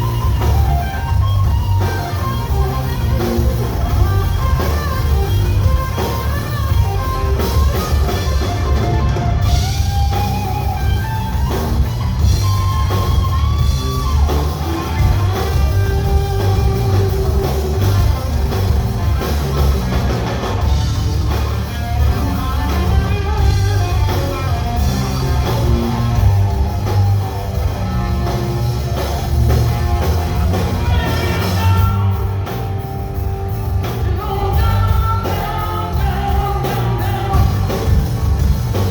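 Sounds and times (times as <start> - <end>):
bass: 0.0 - 38.9
drum kit: 0.0 - 38.9
electric guitar lead lines: 0.0 - 38.9.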